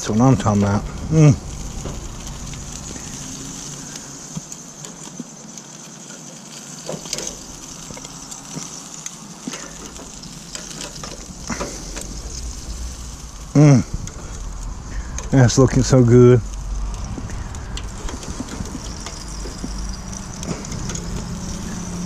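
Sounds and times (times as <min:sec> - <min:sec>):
meat sizzling on grill: 0:00.0 - 0:22.0.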